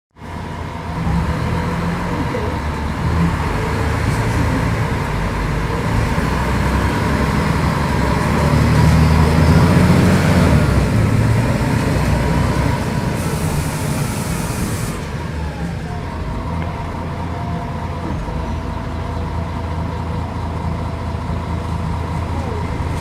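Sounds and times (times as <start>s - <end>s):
bus diesel engine running: 0.1s - 23.0s.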